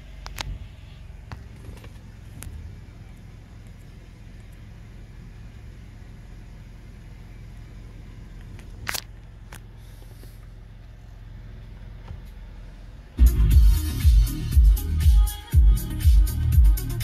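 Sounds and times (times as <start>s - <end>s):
car engine rumble from inside: 0.0s - 17.0s.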